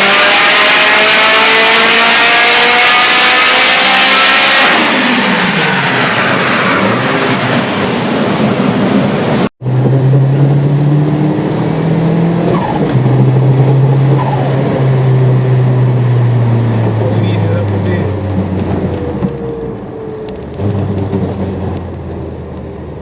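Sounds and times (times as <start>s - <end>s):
rally car engine: 0.0s - 23.0s.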